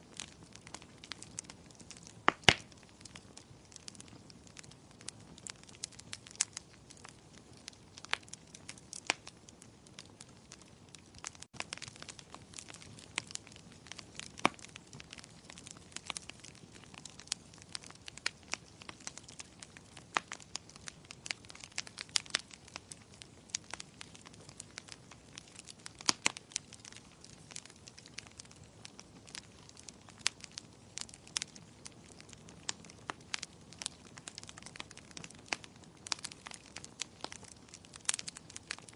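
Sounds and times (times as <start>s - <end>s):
soft steady hiss: 0.0s - 38.9s
wood fire crackling: 0.0s - 38.9s.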